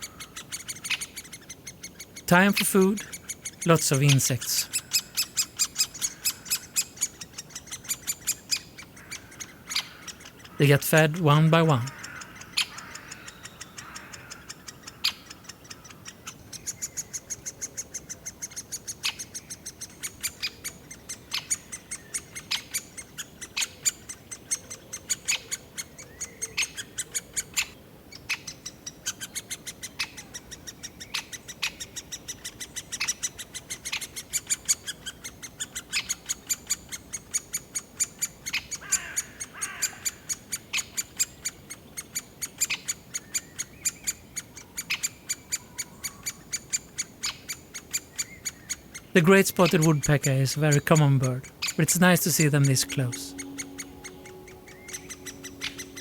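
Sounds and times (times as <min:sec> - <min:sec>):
woodpecker nestlings begging calls: 0:00.0 - 0:56.0.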